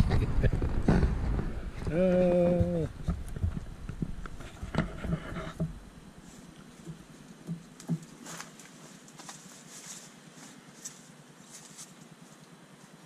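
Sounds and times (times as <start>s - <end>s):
faint taps and rustles: 1.8s - 12.6s.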